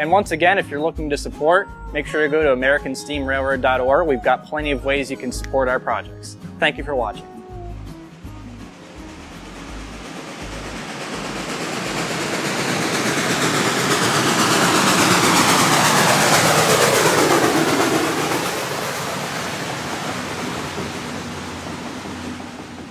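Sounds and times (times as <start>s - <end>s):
train passing by: 2.0s - 22.9s.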